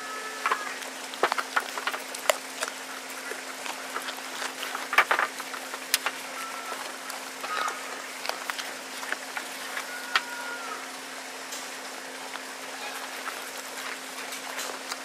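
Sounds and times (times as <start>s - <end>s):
goat crunching carrots: 0.0s - 15.0s.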